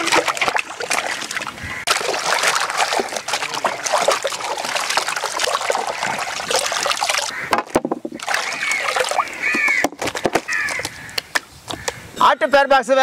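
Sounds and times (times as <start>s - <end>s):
water trickling: 0.0s - 11.2s
water splashing in a metal basin: 0.0s - 11.9s.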